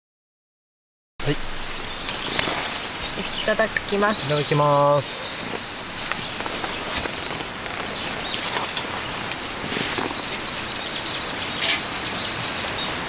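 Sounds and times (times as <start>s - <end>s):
birds chirping: 1.2s - 13.0s
outdoor background hiss: 1.2s - 13.0s.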